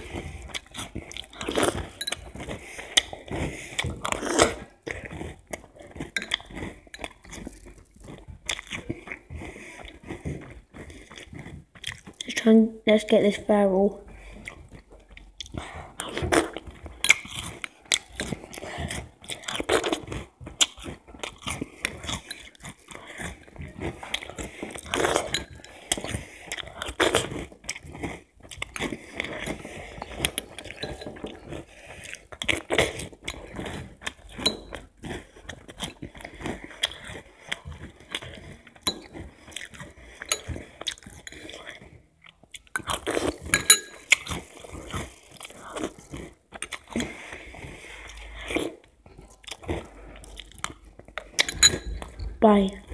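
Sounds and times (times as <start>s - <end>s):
person chewing crunchy cereal: 0.0s - 52.9s.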